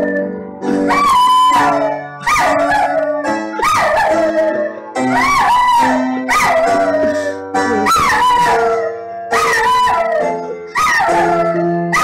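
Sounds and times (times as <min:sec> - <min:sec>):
dog howling: 0:00.0 - 0:12.0
piano notes: 0:00.0 - 0:12.0.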